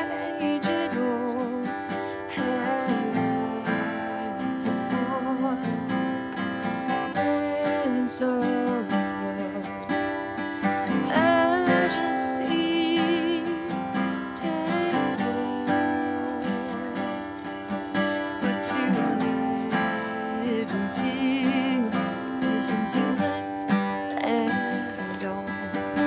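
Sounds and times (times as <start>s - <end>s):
acoustic guitar strumming: 0.0s - 26.0s
woman singing: 0.0s - 26.0s.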